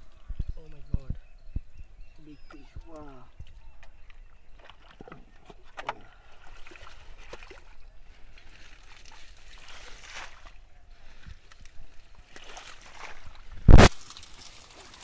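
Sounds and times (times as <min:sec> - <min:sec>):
pond water sloshing and splashing: 0:02.4 - 0:15.0.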